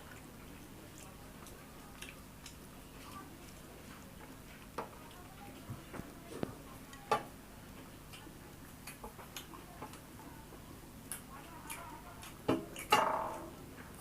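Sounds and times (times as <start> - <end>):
chewing and lip smacks: 0.0 - 7.1, 7.7 - 12.9.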